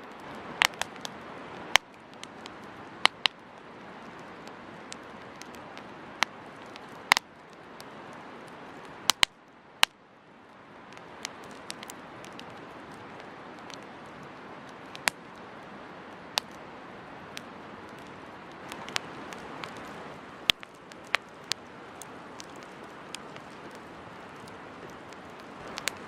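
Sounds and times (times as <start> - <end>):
campfire hissing: 0.0 - 26.0
fire crackles and pops: 0.0 - 26.0.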